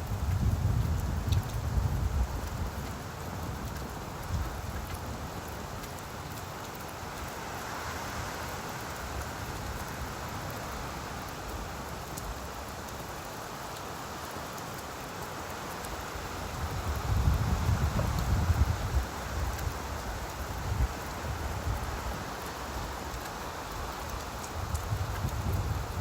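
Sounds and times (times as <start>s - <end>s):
rain pattering on leaves: 0.0s - 26.0s.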